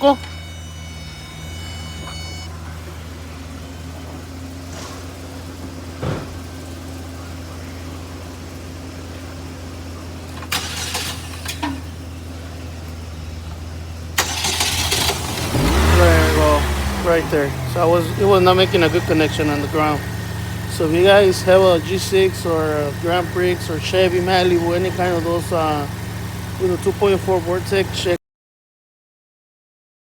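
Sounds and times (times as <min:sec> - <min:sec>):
car engine idling: 0:00.0 - 0:28.2.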